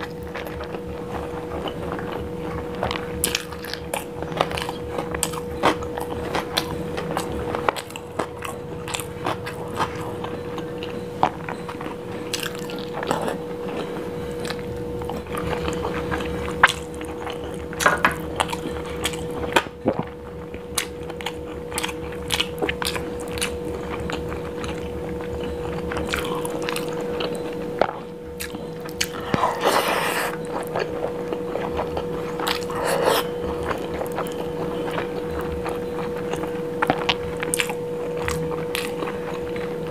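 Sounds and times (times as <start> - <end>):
chewing with wet smacks: 0.0 - 39.9.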